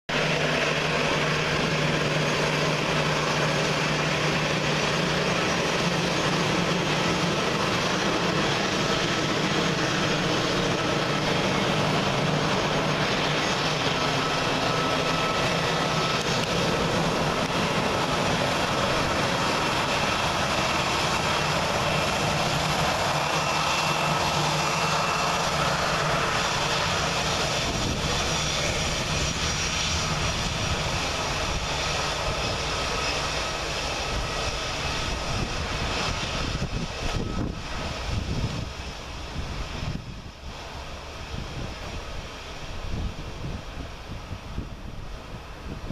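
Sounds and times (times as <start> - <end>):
jet engines running: 0.1 - 45.9.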